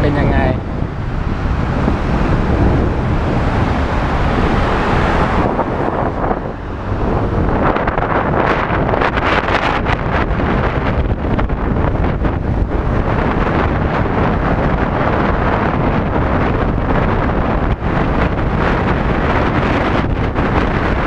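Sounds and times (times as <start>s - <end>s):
steady low rumble: 0.0s - 21.0s
wind buffeting microphone: 0.0s - 21.0s.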